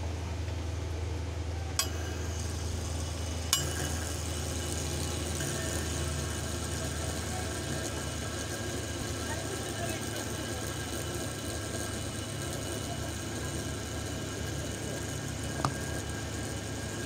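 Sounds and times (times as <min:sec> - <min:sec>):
high whir of spinning bearings: 0:01.2 - 0:17.0
fidget spinner clicks: 0:01.8 - 0:17.0.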